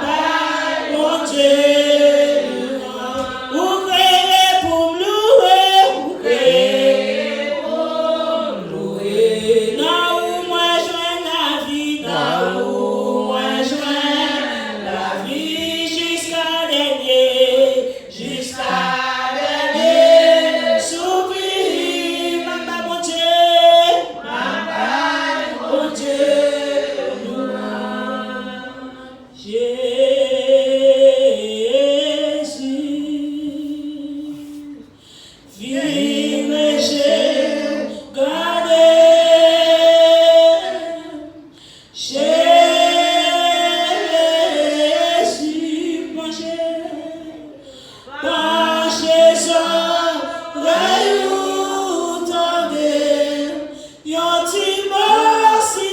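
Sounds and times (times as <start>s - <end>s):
congregation singing unaccompanied: 0.0s - 55.9s.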